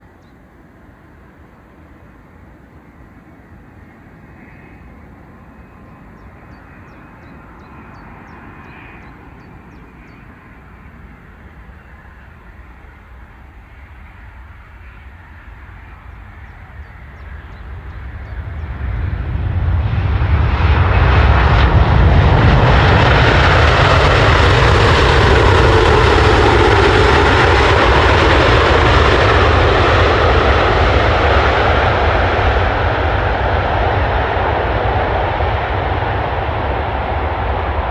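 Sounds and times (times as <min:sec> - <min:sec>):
jet engines roaring past: 0:00.0 - 0:37.9.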